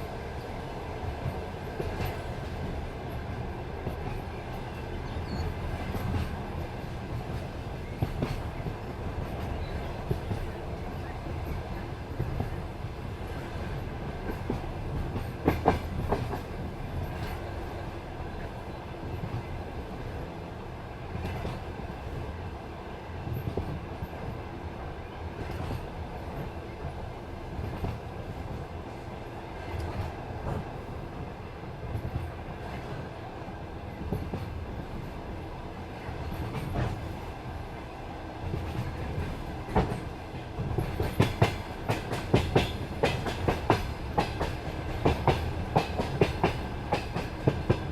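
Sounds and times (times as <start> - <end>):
clickety-clack on rail joints: 0.0 - 47.9
train wheels rumbling: 0.0 - 47.9.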